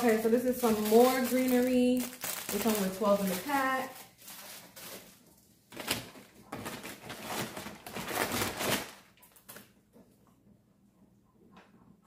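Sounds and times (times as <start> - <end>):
packaging rustling and crinkling: 0.0 - 9.7.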